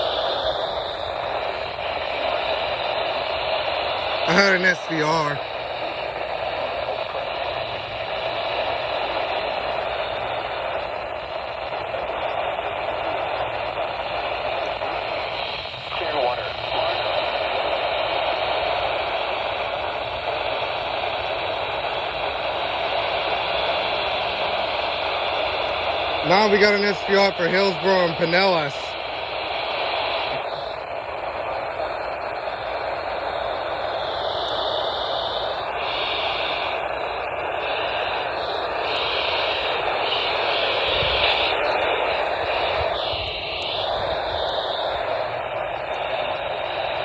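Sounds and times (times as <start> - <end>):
radio static hissing: 0.0 - 47.0.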